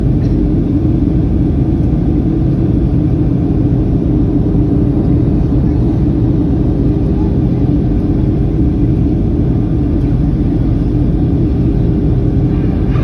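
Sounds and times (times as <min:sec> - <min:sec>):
airplane engine and airflow rumble: 0:00.0 - 0:13.0
steady hum: 0:00.0 - 0:13.0.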